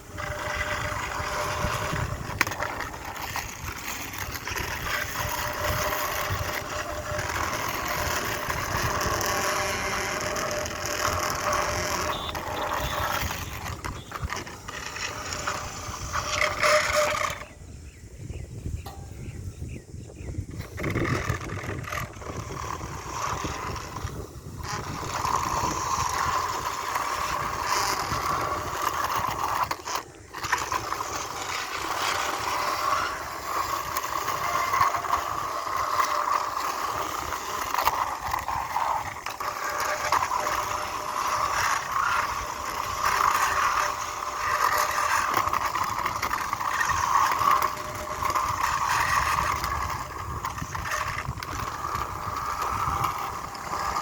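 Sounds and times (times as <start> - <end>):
toy motor whirring: 0.0 - 17.6, 20.5 - 54.0.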